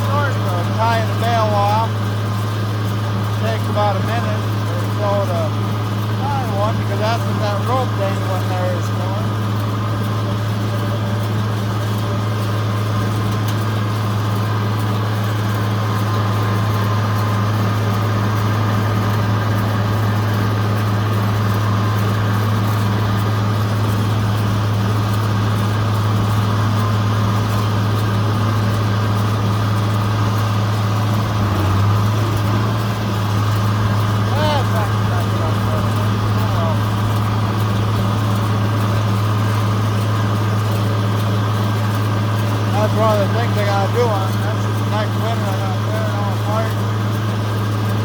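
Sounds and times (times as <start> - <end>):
tractor engine drone: 0.0 - 48.0.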